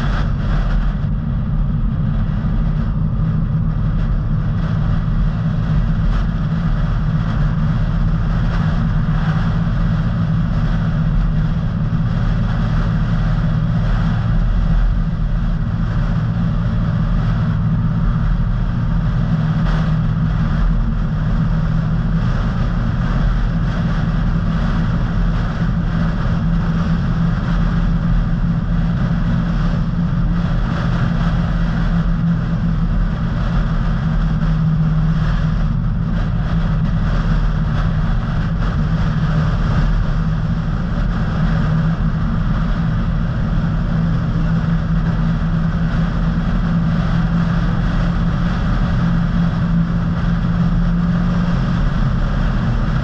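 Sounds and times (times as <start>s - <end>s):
car engine and tyre drone: 0.0s - 53.0s
steady low hum: 0.0s - 53.0s.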